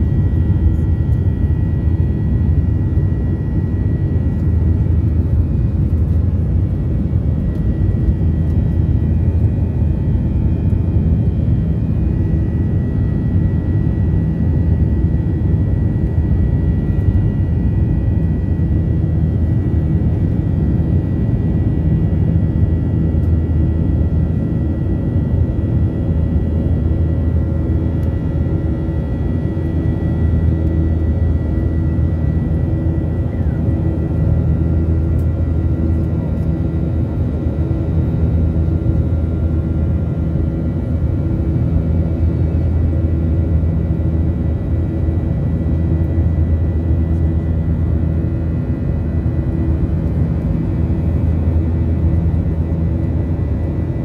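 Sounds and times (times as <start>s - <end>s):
jet engine and airflow drone: 0.0s - 54.0s.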